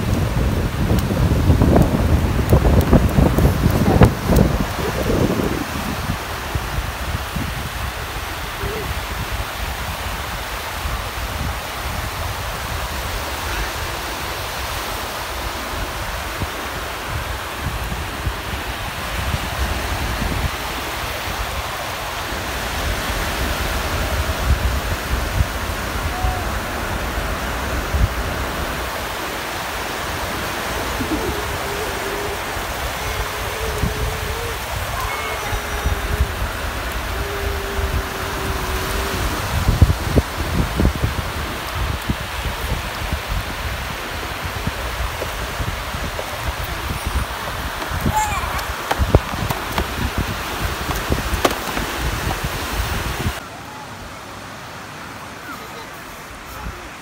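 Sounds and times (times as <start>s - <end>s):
wind rumble on microphone: 0.0s - 53.4s
small waves breaking on sand: 0.0s - 57.0s.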